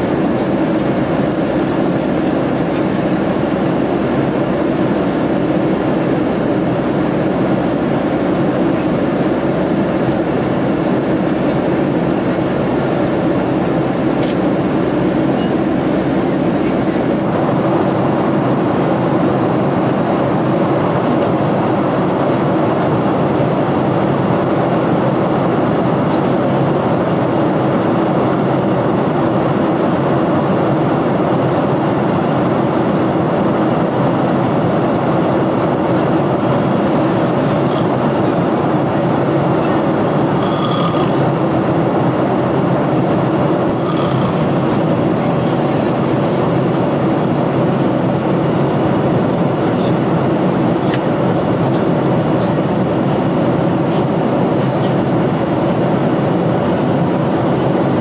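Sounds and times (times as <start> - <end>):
airplane cabin engine noise: 0.0 - 58.0.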